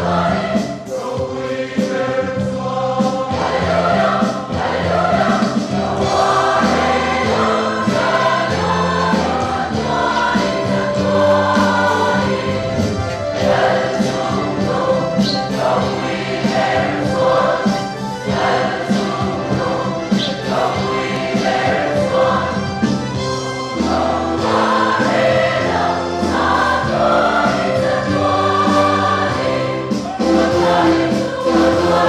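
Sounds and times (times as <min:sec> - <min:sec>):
choir singing a hymn: 0:00.0 - 0:32.0
instrumental accompaniment: 0:00.0 - 0:32.0.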